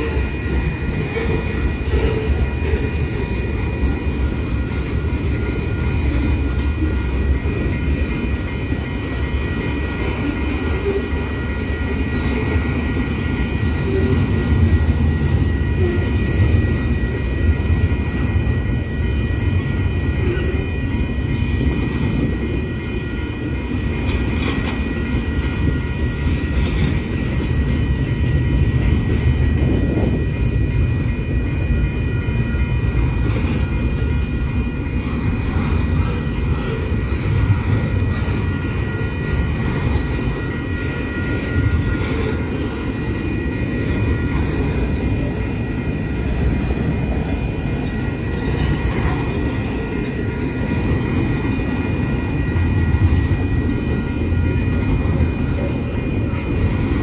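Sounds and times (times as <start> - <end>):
high-pitched ringing tones: 0.0 - 57.0
train clanks: 0.0 - 57.0
train wheels rumbling on rail: 0.0 - 57.0.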